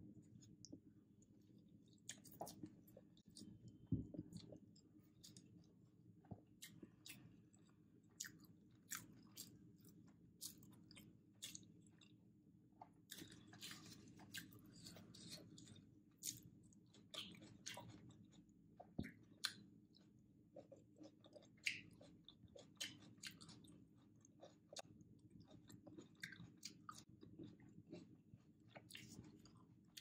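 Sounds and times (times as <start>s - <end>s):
low steady hum: 0.0s - 30.0s
person chewing food: 0.1s - 30.0s.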